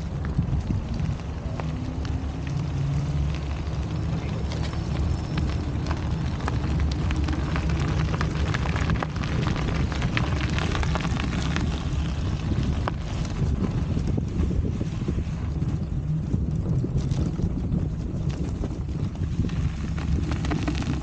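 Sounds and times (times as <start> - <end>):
bicycle rolling on wet pavement: 0.0 - 21.0
crackles and clicks: 0.0 - 21.0.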